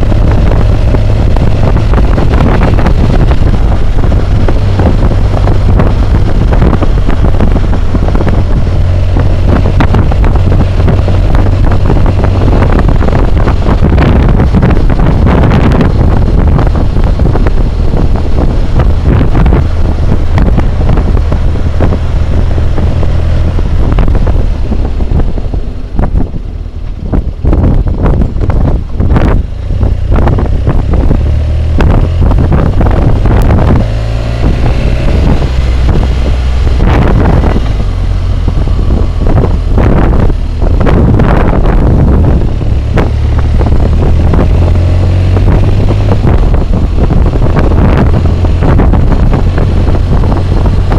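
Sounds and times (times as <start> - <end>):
motorcycle engine: 0.0 - 50.9
wind buffeting microphone: 0.0 - 50.9.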